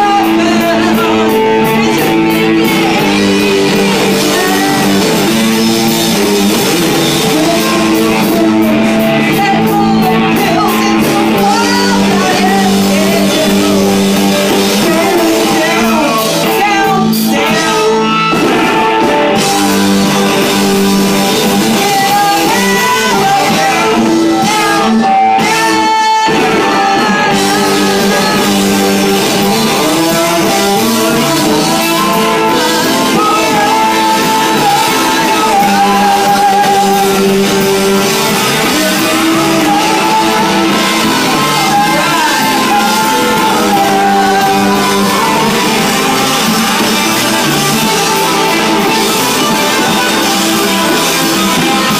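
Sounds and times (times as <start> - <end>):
live band with singer and guitar: 0.0 - 51.9.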